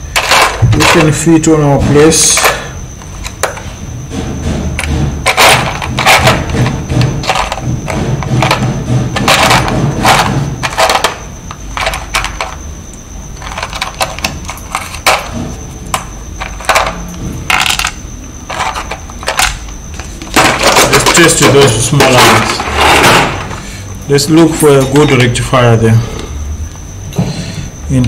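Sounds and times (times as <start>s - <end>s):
components and tools clattering: 0.0s - 25.3s
faint high whine: 0.0s - 28.0s.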